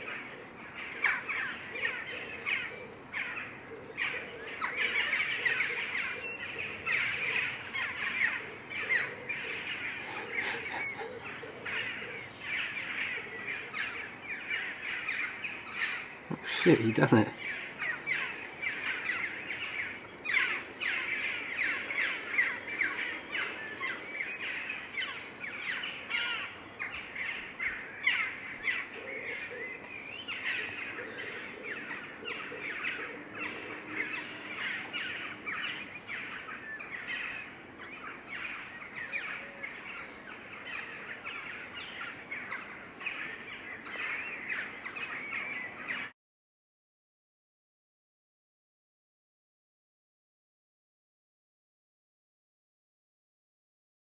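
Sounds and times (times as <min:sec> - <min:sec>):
small birds chirping and singing: 0:00.0 - 0:46.1.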